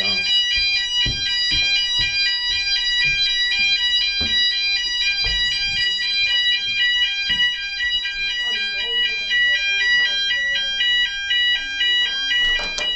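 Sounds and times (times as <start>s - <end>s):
fire alarm pulsing tone: 0.0s - 12.9s.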